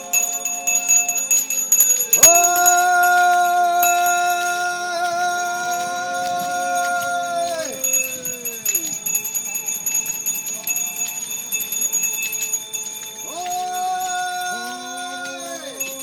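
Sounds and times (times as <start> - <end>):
monks calling out long cries: 0.0 - 16.0
small bells ringing: 0.0 - 16.0.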